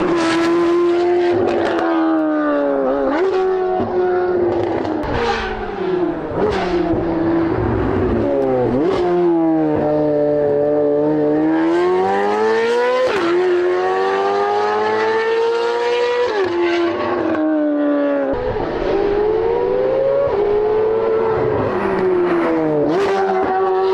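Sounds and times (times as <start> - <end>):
car engine at high revs: 0.0 - 23.9.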